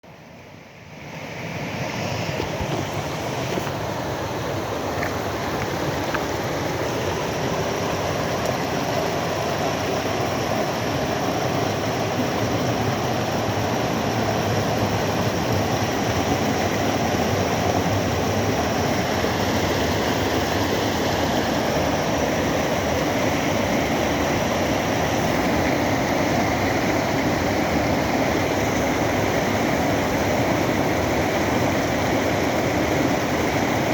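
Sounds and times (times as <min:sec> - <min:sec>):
floodwater rushing: 0:01.0 - 0:33.9.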